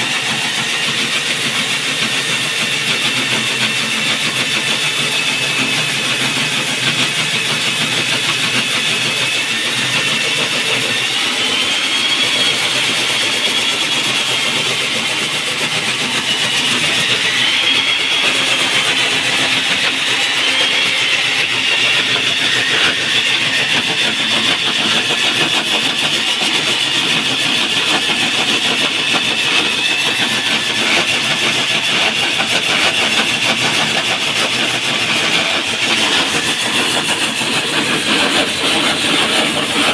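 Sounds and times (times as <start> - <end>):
core drill motor whining: 0.0 - 39.9.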